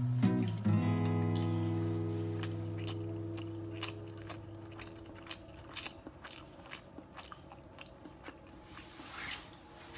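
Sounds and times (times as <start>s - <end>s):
person chewing rice: 0.4s - 9.4s.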